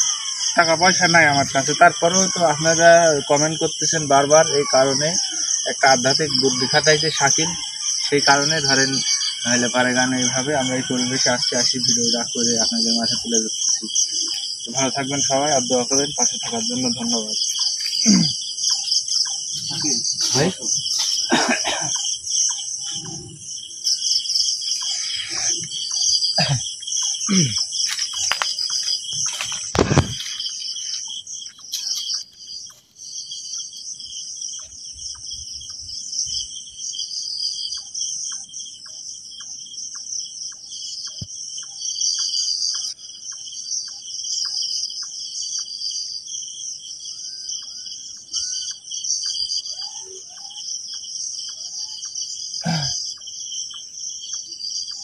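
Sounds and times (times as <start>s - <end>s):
night insect chorus: 0.0s - 55.0s.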